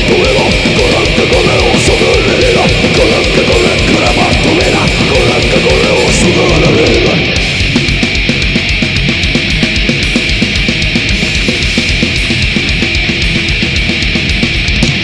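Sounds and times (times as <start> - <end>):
fast drum beat: 0.0 - 15.0
heavy metal band playing: 0.0 - 15.0.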